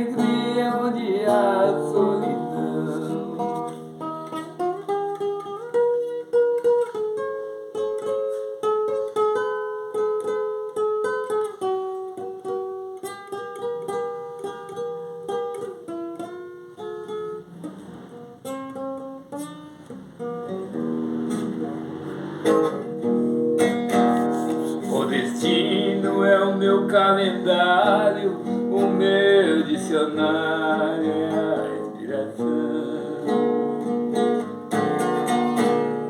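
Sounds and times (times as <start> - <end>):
picked guitar melody: 0.0 - 36.0
strummed chords: 0.0 - 36.0.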